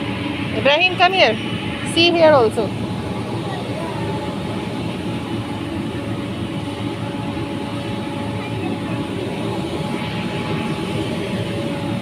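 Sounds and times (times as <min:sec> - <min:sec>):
blowers running: 0:00.0 - 0:12.0.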